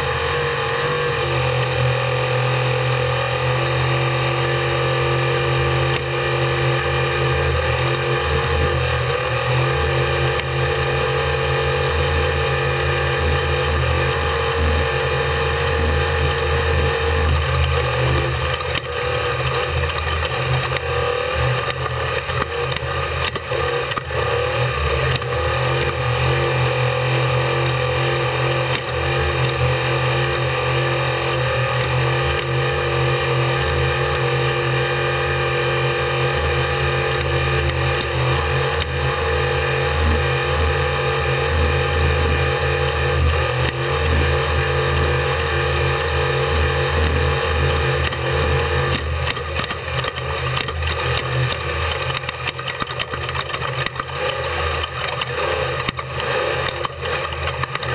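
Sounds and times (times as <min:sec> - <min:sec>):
truck engine running hard: 0:00.0 - 0:57.9.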